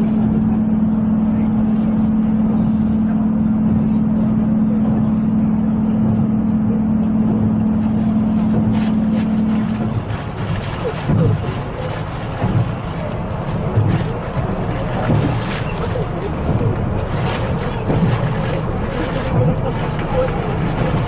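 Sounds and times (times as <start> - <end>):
constant low hum: 0.0 - 21.0
train rumble inside carriage: 0.0 - 21.0.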